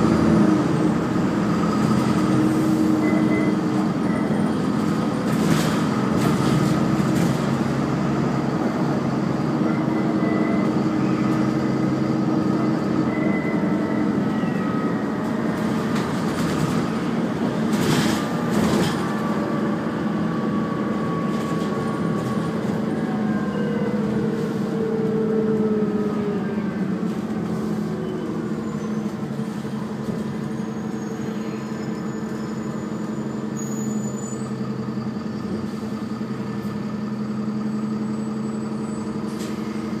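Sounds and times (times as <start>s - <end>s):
bus engine droning: 0.0s - 40.0s.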